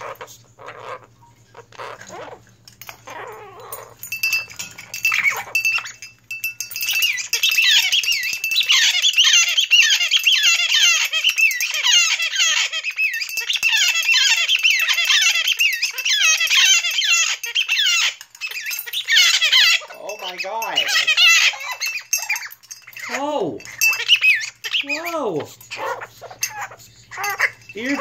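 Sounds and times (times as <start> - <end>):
parrot squawking shrilly: 0.0 - 4.0, 7.0 - 28.0.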